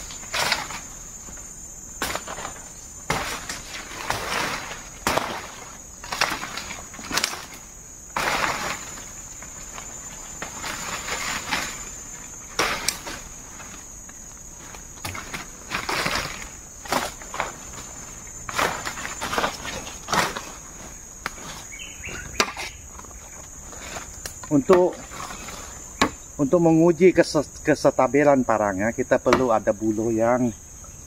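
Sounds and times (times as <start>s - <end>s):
rustles and scrapes of handling: 0.0s - 26.0s
high-pitched insect drone: 0.0s - 31.0s.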